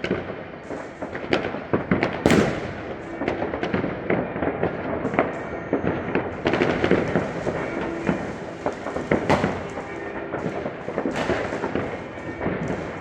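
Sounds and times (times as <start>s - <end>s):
firecracker crackle: 0.0s - 13.0s
fireworks banging: 0.0s - 13.0s.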